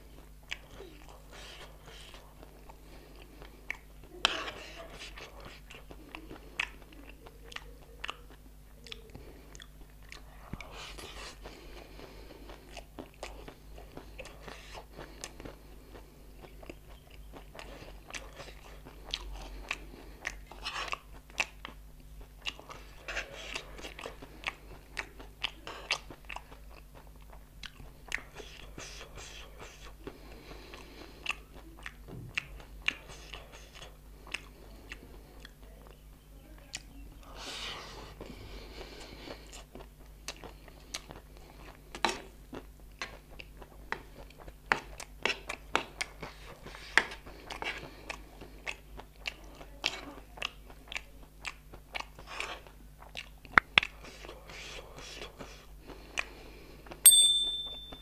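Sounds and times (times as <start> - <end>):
person chewing crunchy food: 0.0 - 36.0, 37.4 - 57.0.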